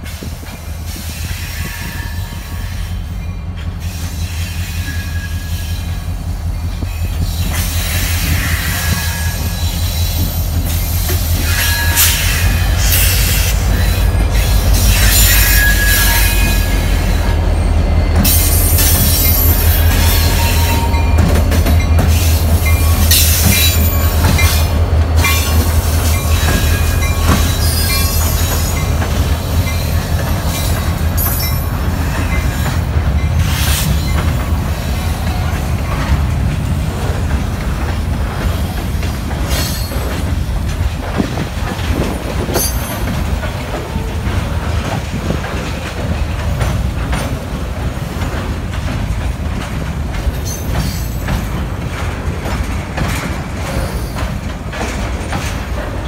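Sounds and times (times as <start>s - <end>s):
diesel locomotive engines rumbling: 0.0s - 56.0s
train wheels clacking over rail joints: 0.0s - 56.0s.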